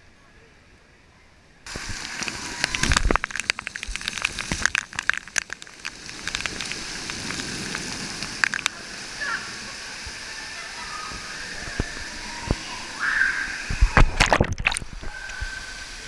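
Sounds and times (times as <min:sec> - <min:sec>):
water splashing on camera: 0:01.7 - 0:16.0.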